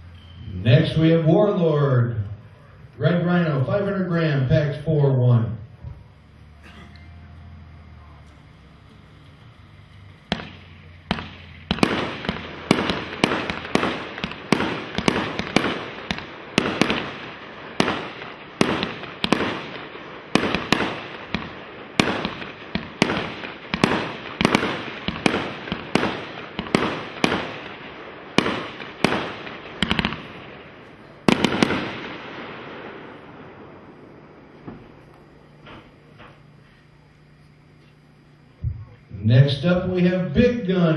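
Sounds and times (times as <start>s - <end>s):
firework bangs: 2.4s - 40.9s.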